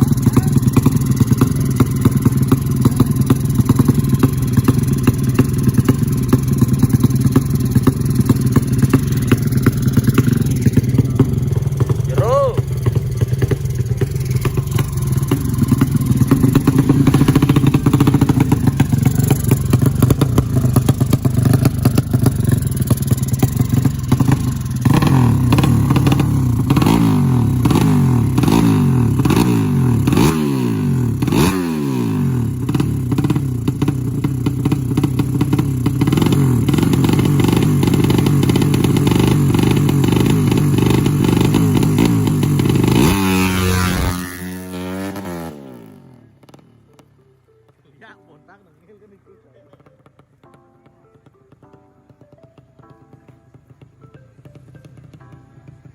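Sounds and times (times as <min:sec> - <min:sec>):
motorcycle engine revving: 0:00.0 - 0:47.1, 0:51.6 - 0:55.9.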